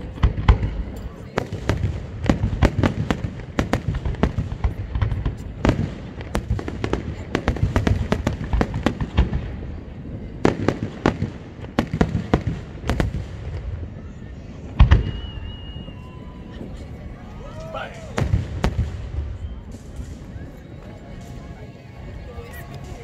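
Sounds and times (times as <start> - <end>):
fireworks booms: 0.0 - 21.6
fireworks bursting and crackling: 0.0 - 23.0.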